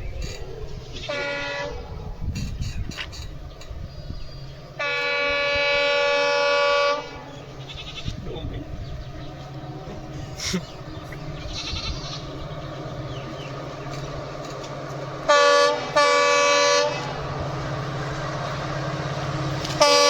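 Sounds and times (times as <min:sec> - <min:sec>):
train rumbling: 0:00.0 - 0:20.0
locomotive horn blasts: 0:00.7 - 0:03.3, 0:04.6 - 0:20.0.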